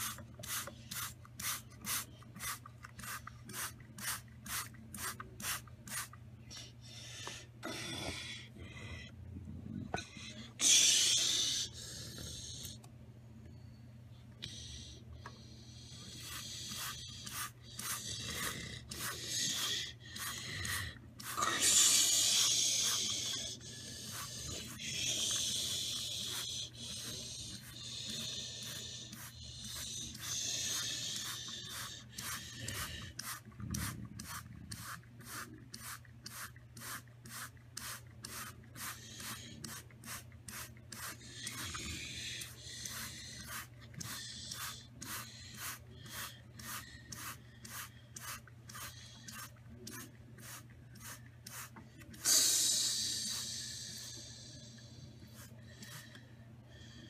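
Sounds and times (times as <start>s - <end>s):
low hum and hiss: 0.0s - 57.0s.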